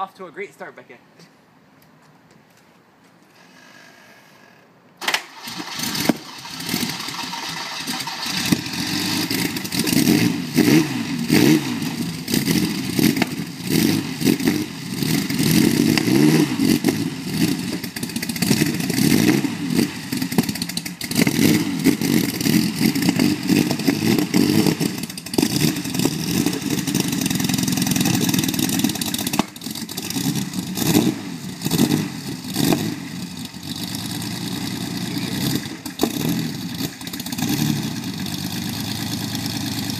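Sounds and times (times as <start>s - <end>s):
car engine revving: 5.4s - 39.9s.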